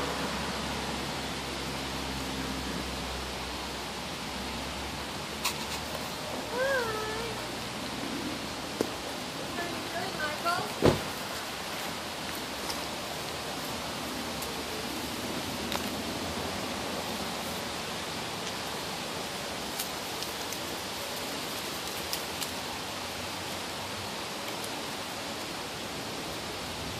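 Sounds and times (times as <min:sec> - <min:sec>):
outdoor background hiss: 0:00.0 - 0:26.9.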